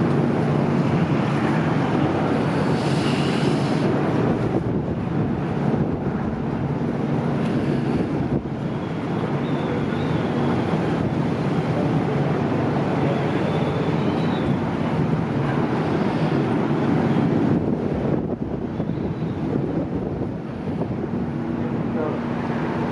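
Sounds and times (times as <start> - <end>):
ship engines droning: 0.0 - 22.9
wind buffeting microphone: 0.0 - 22.9.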